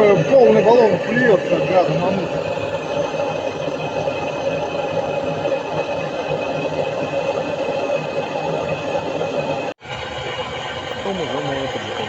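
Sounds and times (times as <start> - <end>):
gas torch hissing: 0.0 - 9.8.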